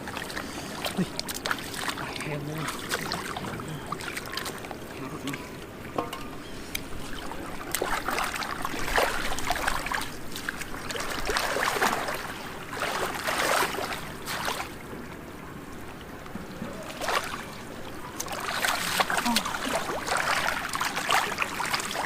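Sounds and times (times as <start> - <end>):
floodwater sloshing and splashing: 0.0 - 22.0.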